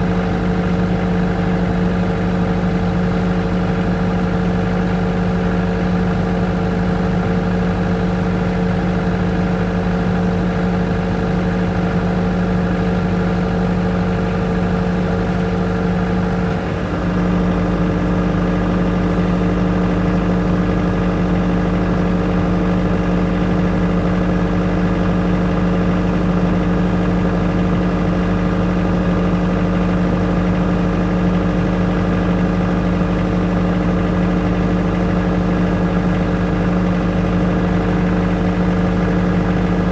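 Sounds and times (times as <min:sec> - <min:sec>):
generator humming: 0:00.0 - 0:39.9.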